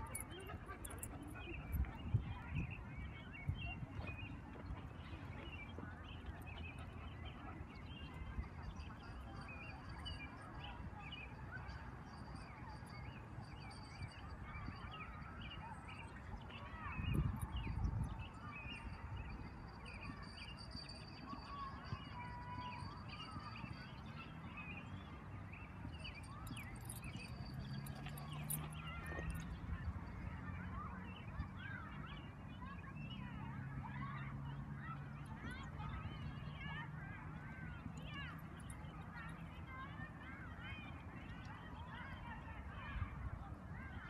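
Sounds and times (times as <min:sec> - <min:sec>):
birds chirping: 0:00.0 - 0:43.1.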